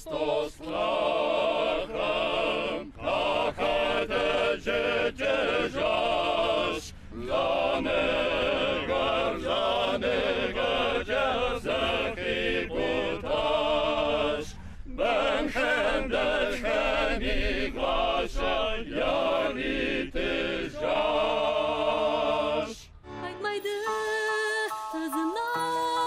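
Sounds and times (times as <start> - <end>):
choir singing chant-like song: 0.0 - 22.9.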